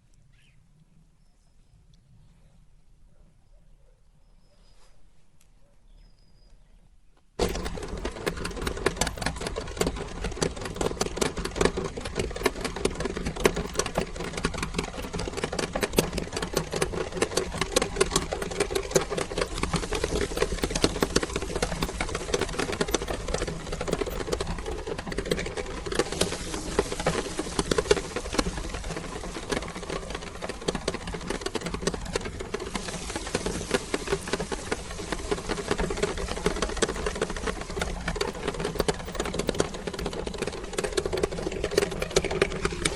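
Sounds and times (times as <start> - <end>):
crackle of grinding clicks: 7.2 - 42.9.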